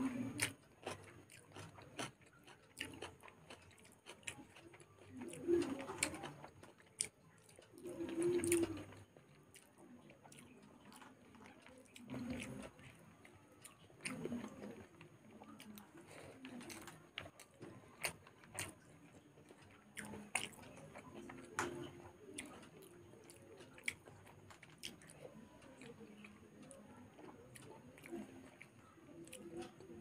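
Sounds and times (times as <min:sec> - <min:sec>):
person chewing soft food: 0:00.0 - 0:30.0.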